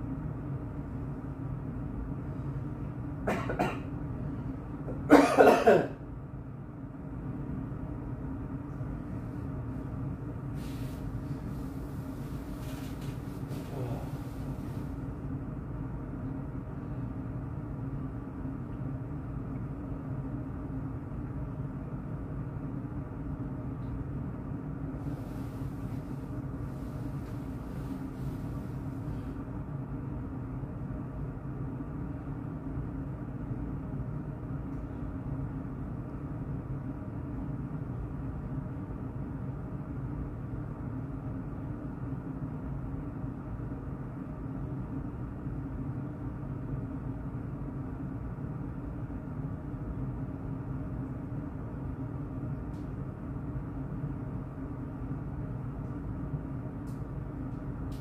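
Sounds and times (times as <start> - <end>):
low hum of air-moving equipment: 0.0 - 58.0.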